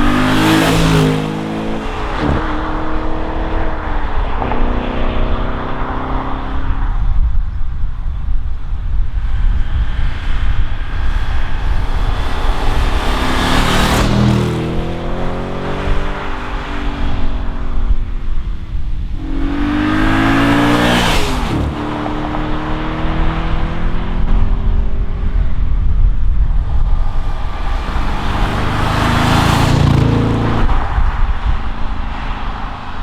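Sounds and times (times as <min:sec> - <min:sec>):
car engine driving past: 0:00.0 - 0:07.1, 0:10.2 - 0:24.7, 0:26.9 - 0:33.0.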